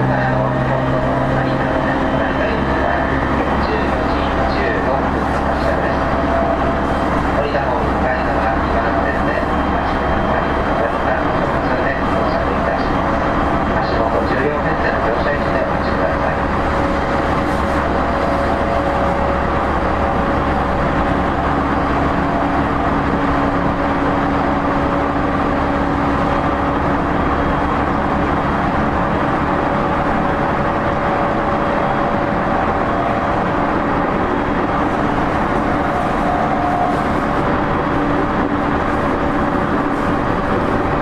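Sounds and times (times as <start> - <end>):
traction equipment hum: 0.0 - 41.0
wheels rumbling on rail: 0.0 - 41.0.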